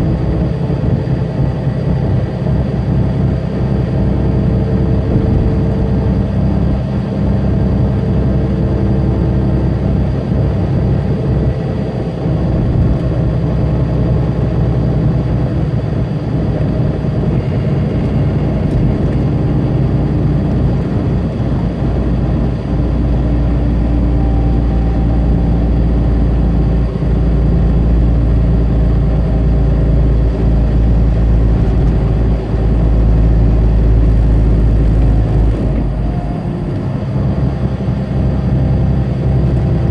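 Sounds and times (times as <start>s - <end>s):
road and tyre noise: 0.0s - 39.9s
truck diesel engine running: 0.0s - 39.9s.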